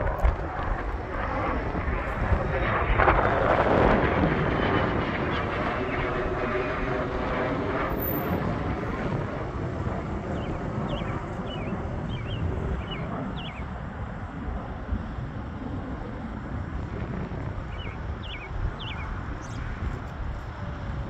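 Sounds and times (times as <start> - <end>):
jet engines climbing: 0.0 - 21.0.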